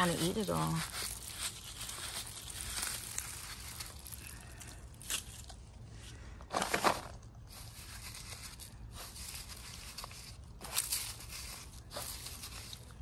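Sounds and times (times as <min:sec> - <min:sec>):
dry seed heads rustling by hand: 0:00.0 - 0:13.0.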